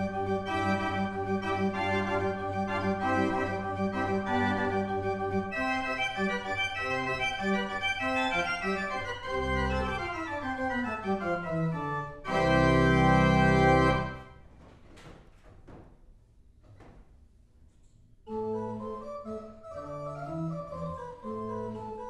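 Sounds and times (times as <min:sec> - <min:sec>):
pipe organ playing: 0:00.0 - 0:14.3, 0:18.3 - 0:22.0.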